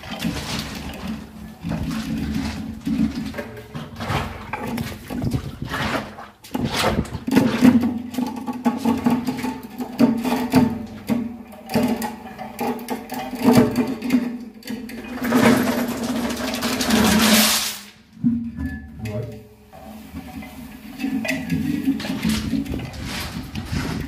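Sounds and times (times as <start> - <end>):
bucket knocking and scraping: 0.0 - 24.0.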